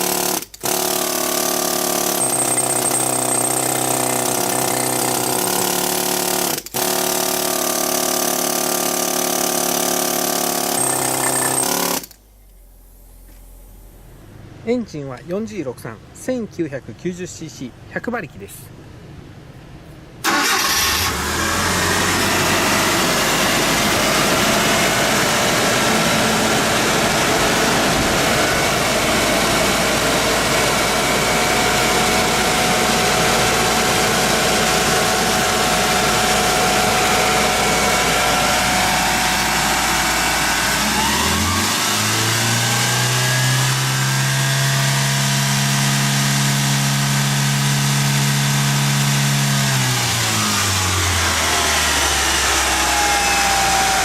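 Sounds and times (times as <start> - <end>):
truck engine running: 0.0 - 6.9, 8.6 - 14.6, 20.2 - 45.0, 46.0 - 54.0
air compressor running: 0.0 - 14.3, 20.2 - 54.0.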